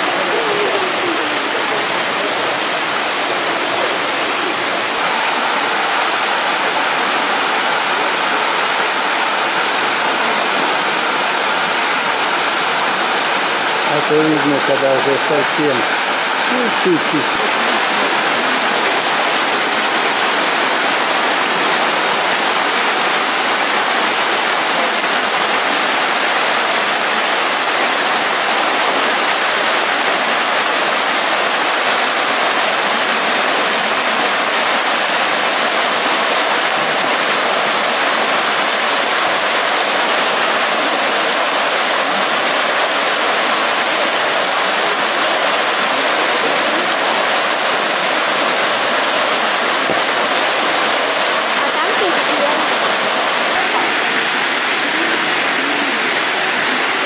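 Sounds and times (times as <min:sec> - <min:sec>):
waterfall splashing into pool: 0:00.0 - 0:57.0.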